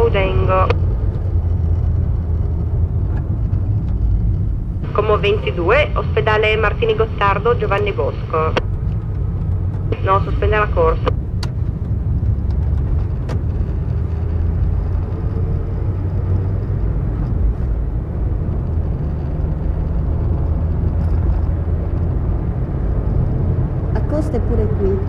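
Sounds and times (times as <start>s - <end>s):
vehicle engine and road noise: 0.0s - 25.0s.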